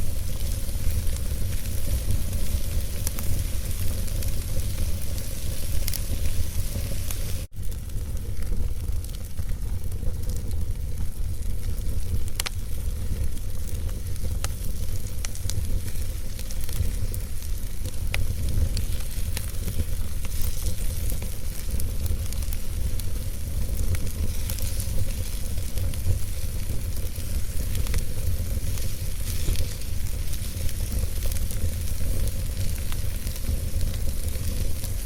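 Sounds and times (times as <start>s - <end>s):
fire rumbling: 0.0s - 35.0s
wood crackling and popping: 0.0s - 35.0s.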